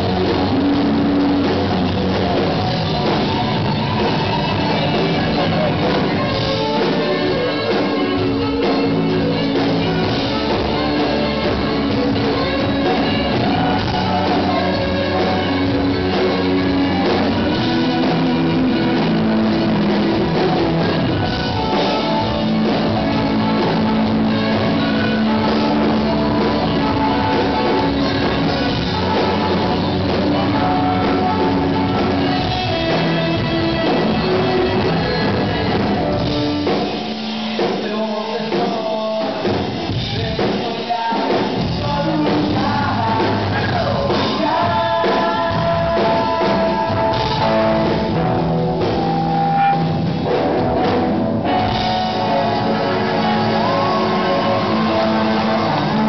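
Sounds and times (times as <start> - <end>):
saxophone: 0.0 - 37.6, 42.2 - 56.0
live rock band playing: 0.0 - 56.0
person singing: 0.0 - 56.0.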